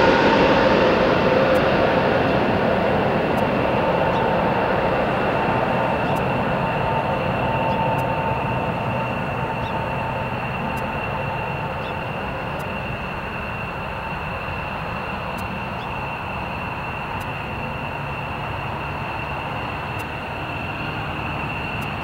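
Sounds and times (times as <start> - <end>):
jet engines rumbling overhead: 0.0 - 22.0
whining engine tone: 0.0 - 22.0.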